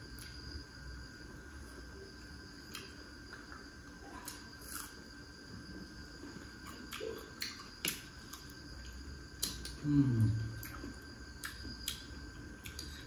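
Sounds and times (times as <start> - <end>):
faint high-pitched whine: 0.0 - 13.0.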